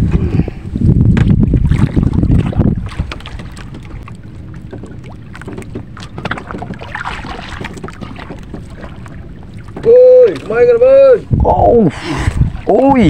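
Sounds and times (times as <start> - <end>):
water lapping against boat hull: 0.0 - 13.0
wind rush on microphone: 0.0 - 13.0.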